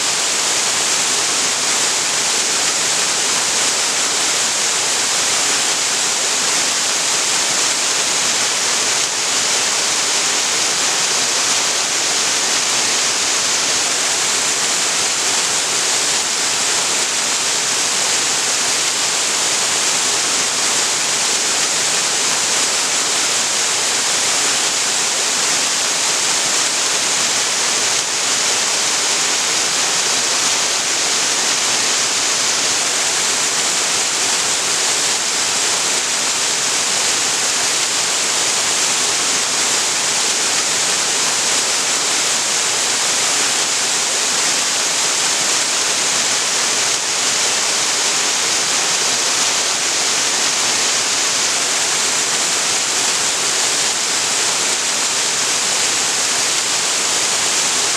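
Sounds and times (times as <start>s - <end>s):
waterfall pouring into pool: 0.0s - 57.9s.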